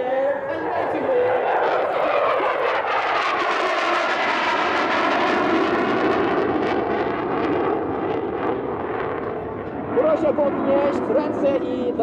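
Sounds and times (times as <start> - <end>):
jet engine flying past: 0.0 - 12.0.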